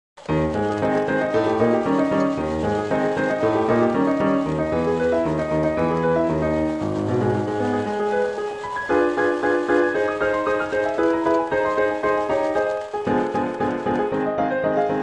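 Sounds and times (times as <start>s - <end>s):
piano music: 0.2s - 15.0s.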